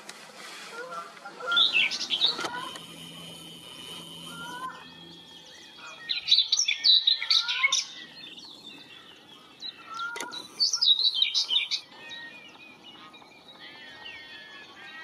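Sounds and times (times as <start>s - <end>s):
songbird warbling: 0.9s - 15.0s.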